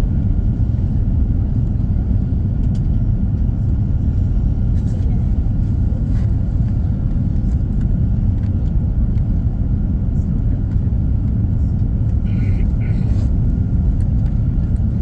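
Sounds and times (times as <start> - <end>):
airliner engines and airflow rumble: 0.0 - 15.0.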